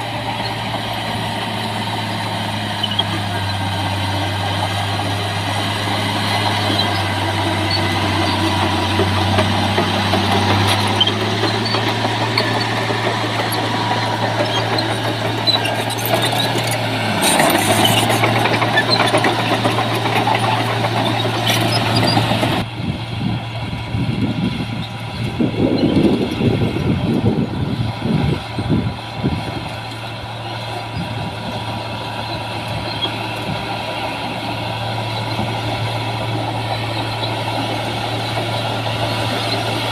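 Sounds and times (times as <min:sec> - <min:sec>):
heavy diesel machinery engine drone: 0:00.0 - 0:39.9.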